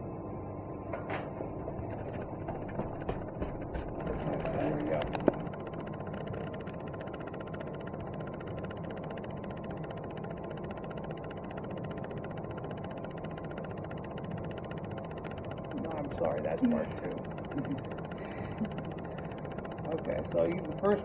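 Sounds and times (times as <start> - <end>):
faint constant tone: 0.0 - 21.0.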